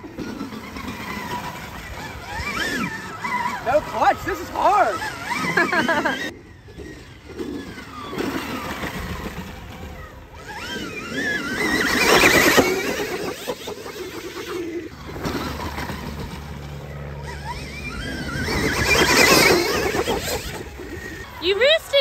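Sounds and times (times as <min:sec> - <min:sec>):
electric motorbike motor whining: 0:00.0 - 0:22.0.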